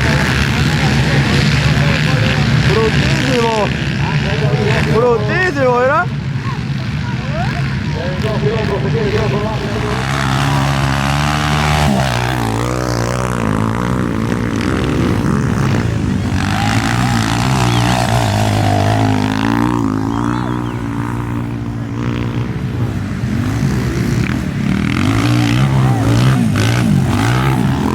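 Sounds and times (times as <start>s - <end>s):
motocross bike engines revving: 0.0s - 27.9s.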